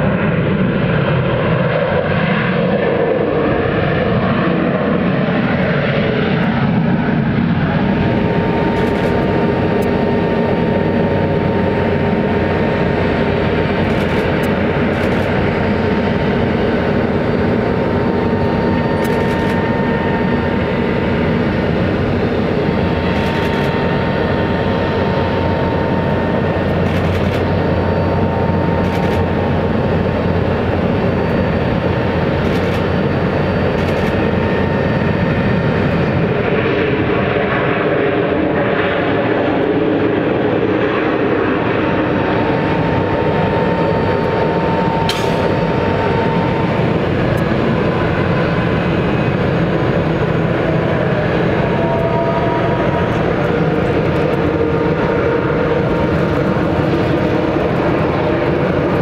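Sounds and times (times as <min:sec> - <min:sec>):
jet engine rush and whine: 0:00.0 - 0:59.0.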